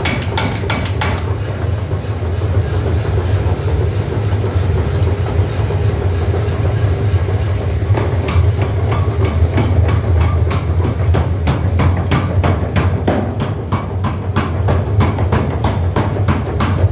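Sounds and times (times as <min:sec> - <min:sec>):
heavy machinery humming: 0:00.0 - 0:16.9.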